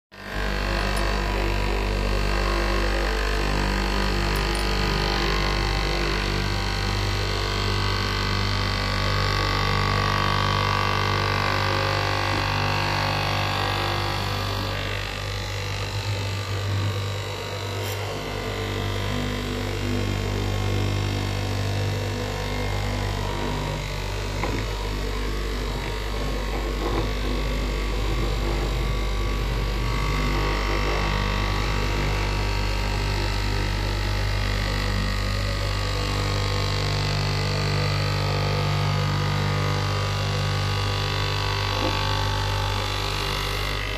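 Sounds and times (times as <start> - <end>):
cloth cutting machine humming: 0.1 - 43.9.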